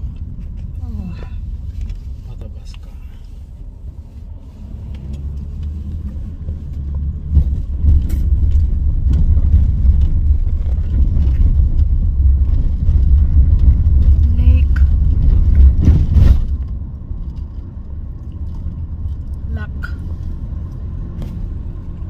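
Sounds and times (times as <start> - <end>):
car tyre and road rumble: 0.0 - 22.0.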